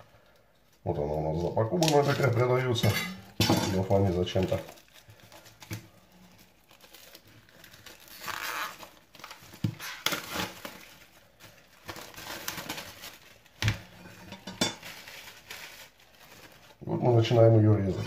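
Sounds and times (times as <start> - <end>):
cling film crinkling: 0.1 - 2.8, 3.7 - 18.0.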